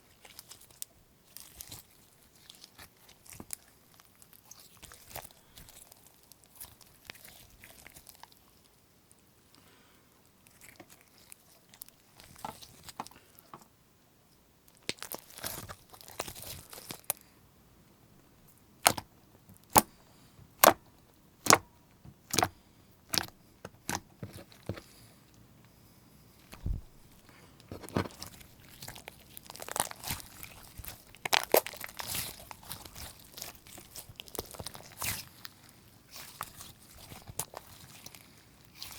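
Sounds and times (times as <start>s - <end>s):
slime squishing: 0.0s - 8.7s, 10.4s - 13.2s, 14.7s - 17.2s, 18.4s - 25.0s, 26.3s - 38.9s.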